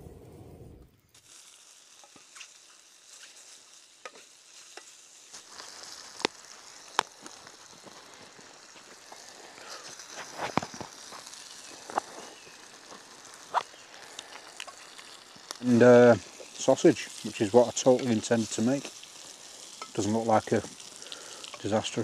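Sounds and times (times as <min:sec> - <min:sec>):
food sizzling in pan: 0:00.9 - 0:22.0.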